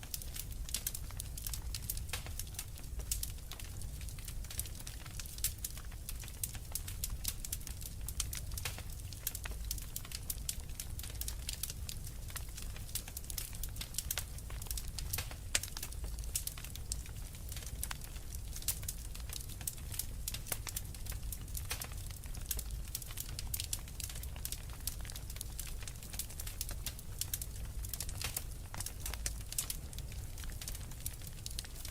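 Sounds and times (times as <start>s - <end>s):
low rumble of flames: 0.0s - 31.9s
wood fire crackling: 0.0s - 31.9s.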